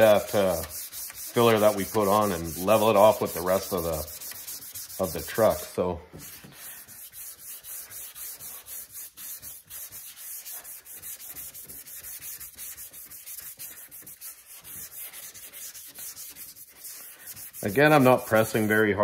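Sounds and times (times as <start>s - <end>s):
sandpaper rasping: 0.0s - 5.6s, 6.2s - 18.6s.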